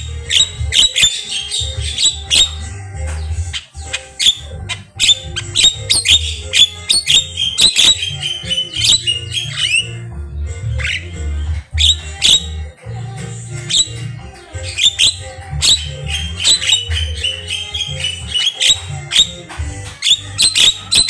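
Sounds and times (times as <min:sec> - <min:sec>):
bird singing whistles and squawks: 0:00.0 - 0:10.0, 0:11.8 - 0:12.6, 0:13.6 - 0:21.0.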